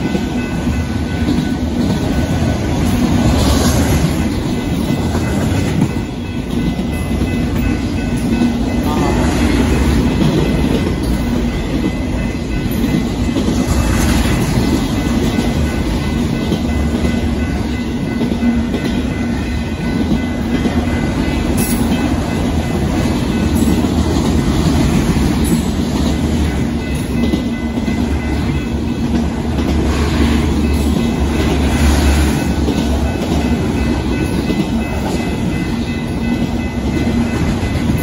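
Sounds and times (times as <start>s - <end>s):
freight train cars rumbling past: 0.0s - 38.0s.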